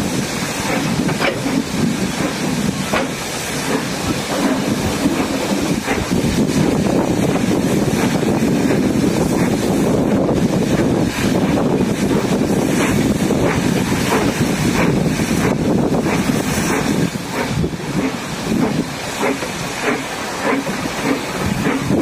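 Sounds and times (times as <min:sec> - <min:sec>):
train coaches rumbling on rails: 0:00.0 - 0:22.0
wind on microphone: 0:00.0 - 0:22.0.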